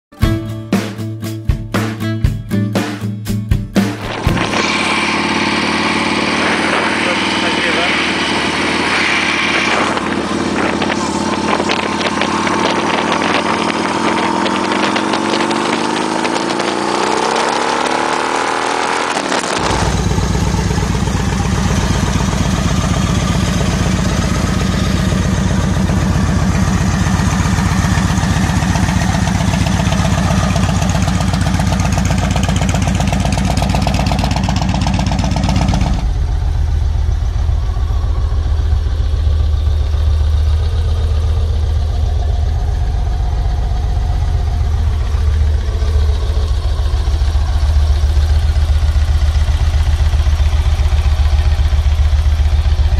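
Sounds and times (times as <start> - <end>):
deeper motorcycle idle: 4.1 - 9.0, 9.6 - 17.8, 19.4 - 52.9
motorcycle engine idling: 4.1 - 18.0, 19.4 - 52.9.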